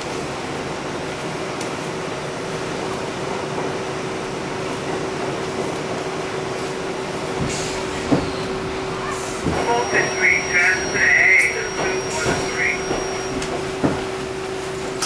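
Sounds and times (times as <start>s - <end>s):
subway wheels rumbling: 0.0s - 15.0s.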